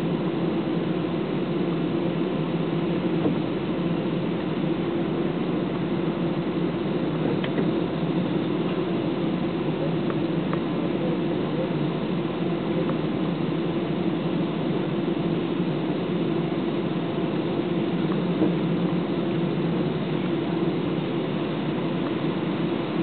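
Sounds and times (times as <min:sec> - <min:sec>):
jet engines droning: 0:00.0 - 0:23.0.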